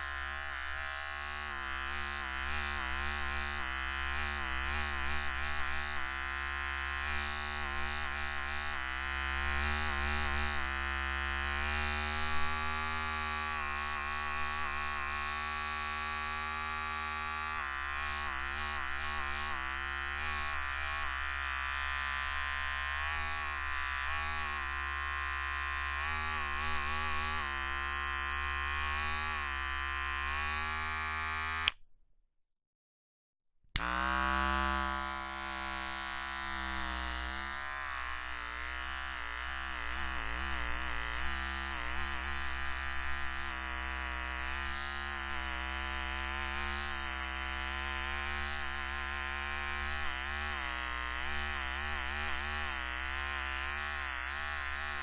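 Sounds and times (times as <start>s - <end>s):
electric shaver buzzing: 0.0s - 31.8s, 33.8s - 55.0s.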